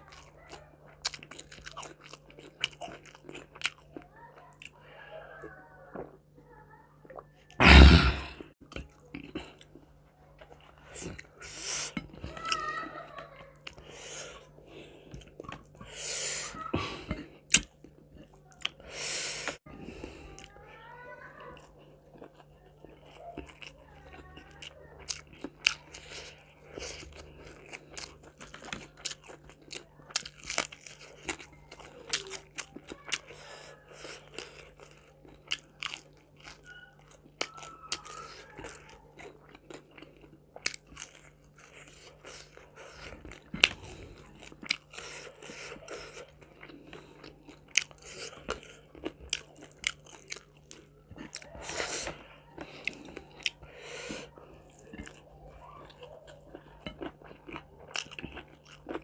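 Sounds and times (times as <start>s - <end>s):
chewing with crunches and smacks: 0.0s - 7.6s, 8.4s - 59.0s.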